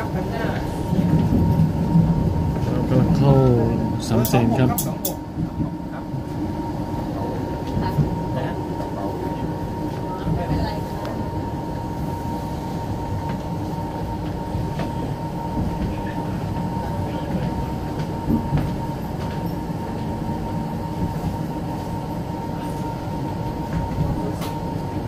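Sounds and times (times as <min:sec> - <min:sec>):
constant high hum: 0:00.0 - 0:25.0
train wheels rumbling on rails: 0:00.0 - 0:25.0.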